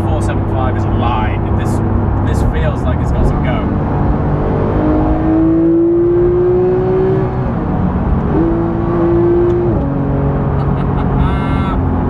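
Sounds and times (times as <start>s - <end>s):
car engine accelerating: 0.0s - 12.0s
road noise: 0.0s - 12.0s.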